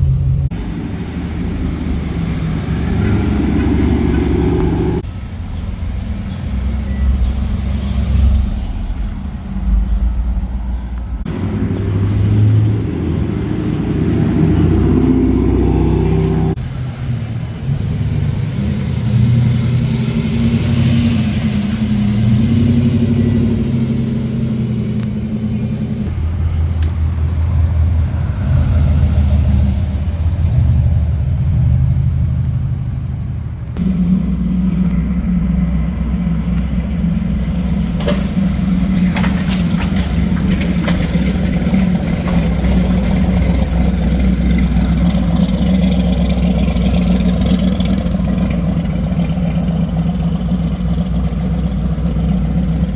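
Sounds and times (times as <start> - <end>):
car engines revving: 0.0 - 52.9.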